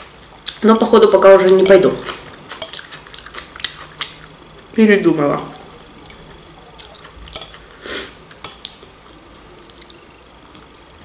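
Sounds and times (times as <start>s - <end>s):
quiet eating sounds: 0.0s - 11.0s.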